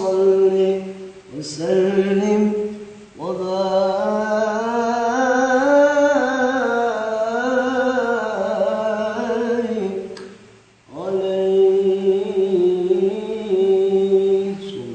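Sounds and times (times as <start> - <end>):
man singing unaccompanied: 0.0 - 14.9.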